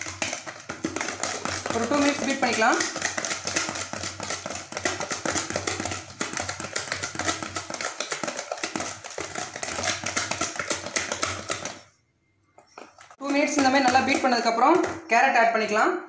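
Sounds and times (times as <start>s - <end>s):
wire whisk beating in plastic bowl: 0.0s - 11.9s, 12.8s - 15.1s.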